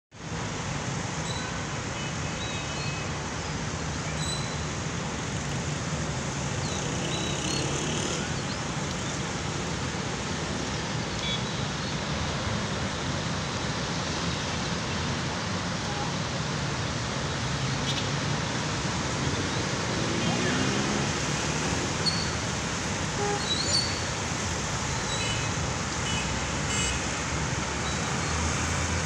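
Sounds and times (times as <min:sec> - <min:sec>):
cars driving on wet road: 0:00.2 - 0:29.0
low traffic rumble: 0:00.2 - 0:29.0
rainfall hissing: 0:00.2 - 0:29.0.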